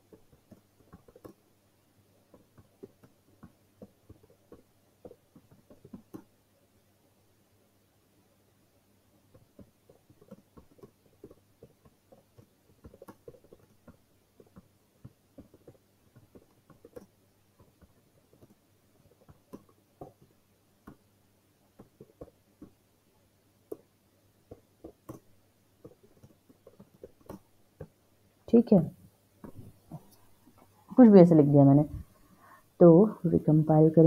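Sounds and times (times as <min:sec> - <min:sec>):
faint keyboard typing: 0:00.0 - 0:06.5, 0:09.1 - 0:22.9, 0:23.6 - 0:31.1.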